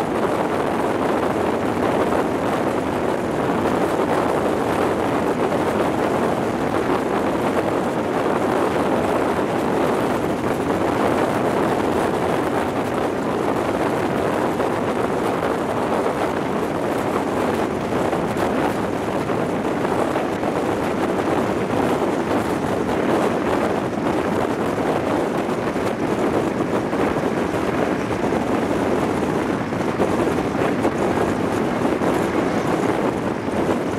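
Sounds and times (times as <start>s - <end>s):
train running noise: 0.0s - 33.9s
wind rushing over microphone: 0.0s - 33.9s.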